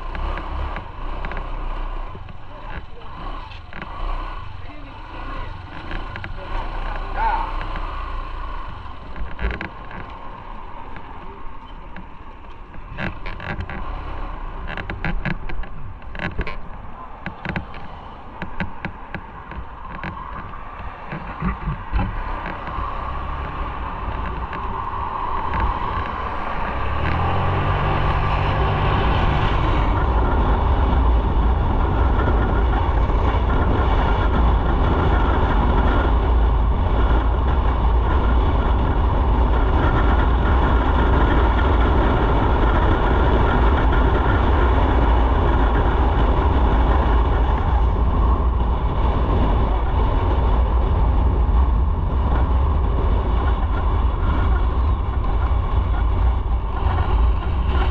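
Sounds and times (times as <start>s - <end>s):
low engine note: 0.0s - 57.9s
motorcycle engine running: 0.0s - 57.9s
wind and road noise: 0.0s - 57.9s.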